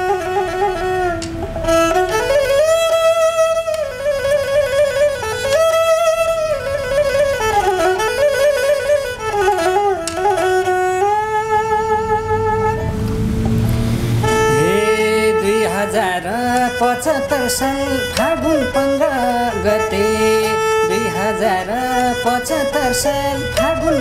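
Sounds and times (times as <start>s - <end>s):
bowed sarangi melody: 0.0s - 24.0s.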